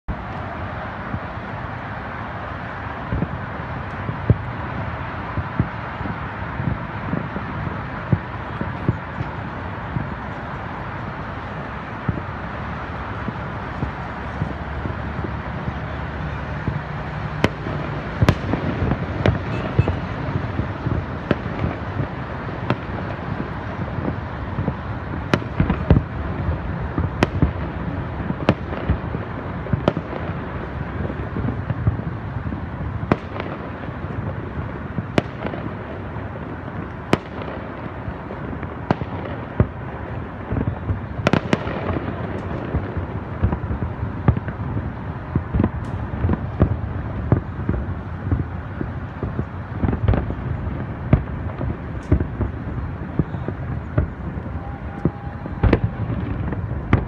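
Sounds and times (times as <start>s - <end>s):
rumbling haze of noise: 0.1s - 57.0s.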